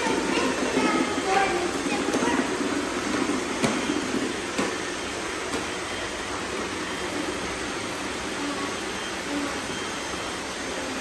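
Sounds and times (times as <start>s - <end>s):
robot vacuums whirring: 0.0s - 11.0s.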